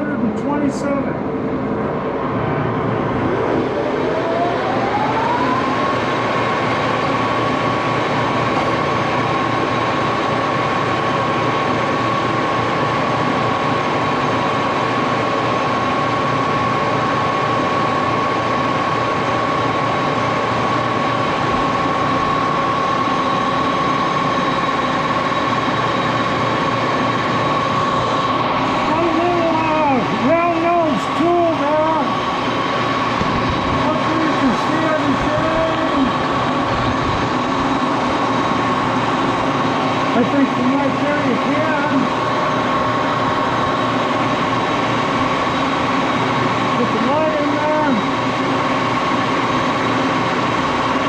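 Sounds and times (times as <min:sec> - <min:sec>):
lathe drive running noise: 0:00.0 - 0:51.0
lathe whine: 0:00.0 - 0:51.0.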